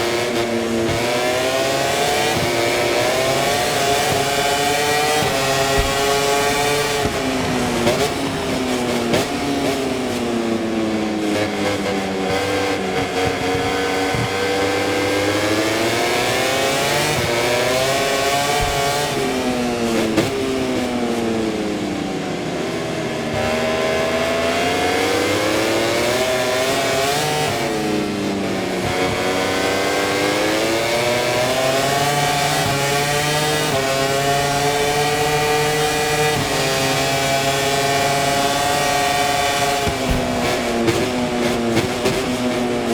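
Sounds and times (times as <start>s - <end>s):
racing motorcycle engine revving: 0.0s - 42.9s.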